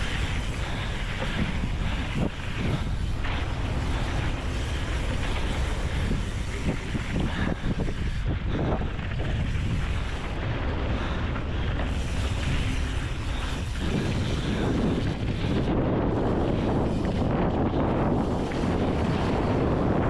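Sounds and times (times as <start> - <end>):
bike tyres rolling on dirt: 0.0 - 20.0
wind buffeting microphone: 0.0 - 20.0.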